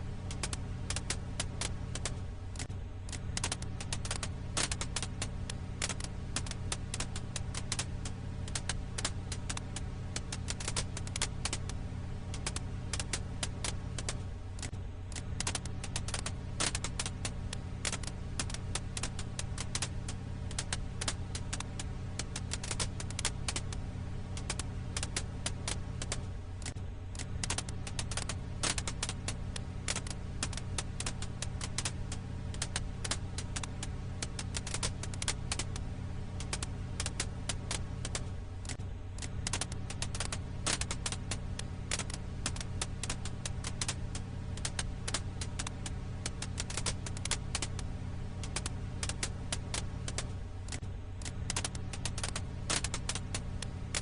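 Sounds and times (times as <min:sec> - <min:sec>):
campfire crackling and popping: 0:00.0 - 0:54.0
steady low hum: 0:00.0 - 0:54.0.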